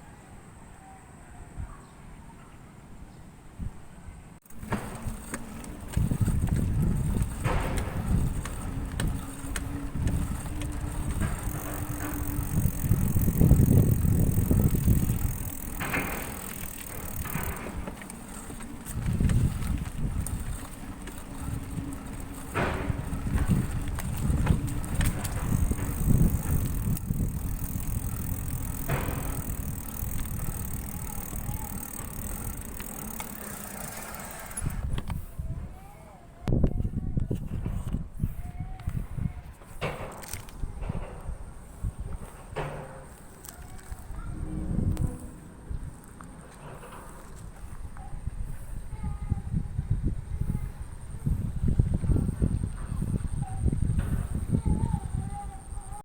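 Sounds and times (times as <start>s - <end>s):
wind and tyre rumble: 3.0s - 56.0s
bike clicks and rattles: 4.4s - 35.3s, 36.6s - 56.0s.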